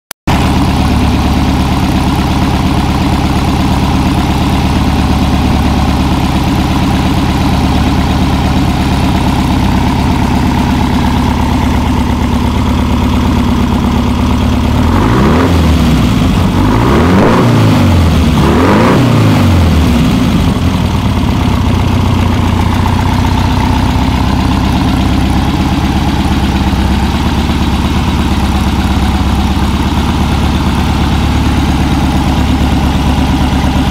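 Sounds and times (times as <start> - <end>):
engine idling and revving: 0.3 - 33.9.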